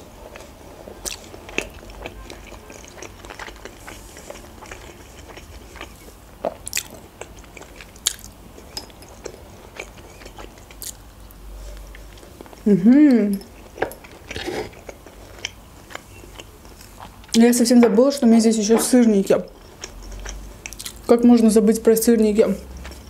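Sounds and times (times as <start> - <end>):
person chewing food: 0.2 - 17.4, 18.8 - 21.1, 22.6 - 23.0.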